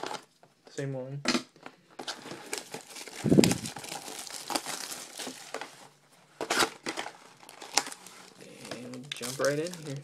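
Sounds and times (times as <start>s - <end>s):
plastic wrapping crinkling and tearing: 2.0s - 10.0s.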